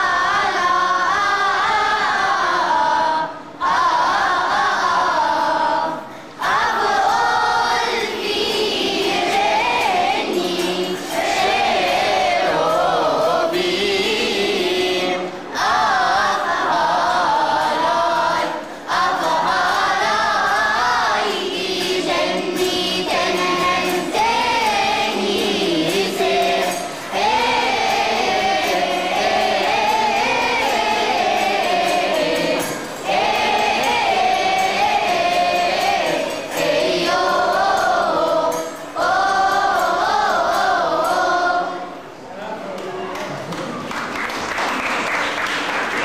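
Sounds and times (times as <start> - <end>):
children's choir singing: 0.0 - 42.6.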